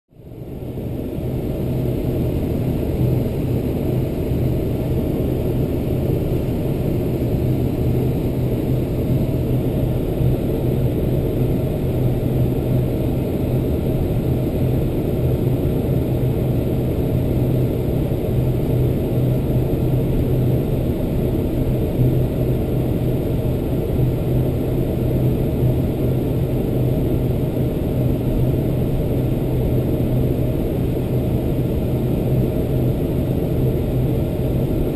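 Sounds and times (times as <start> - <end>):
jet engines droning in cabin: 0.1 - 34.9.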